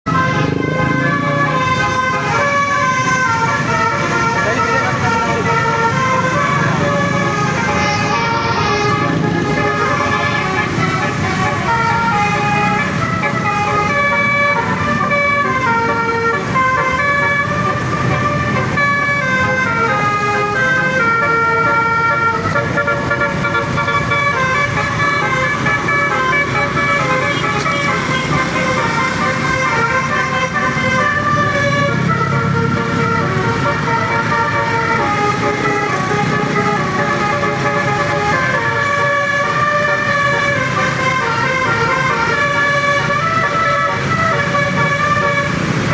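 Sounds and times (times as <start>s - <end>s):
multi-note bus horn melody: 0.1s - 45.9s.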